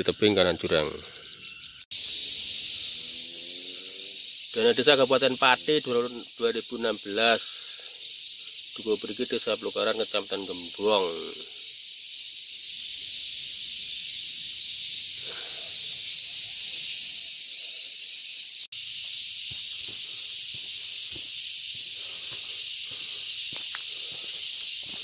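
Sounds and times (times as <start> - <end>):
cicadas shrill drone: 0.0 - 25.0.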